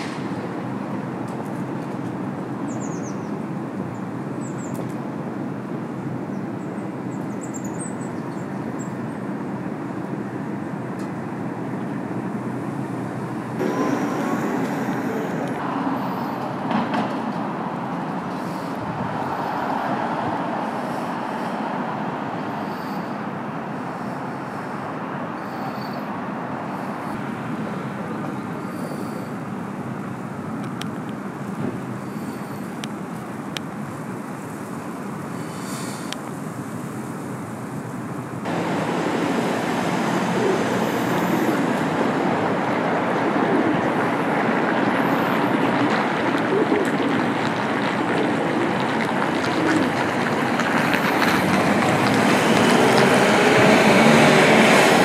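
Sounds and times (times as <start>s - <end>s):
urban traffic rumble: 0.0s - 55.0s.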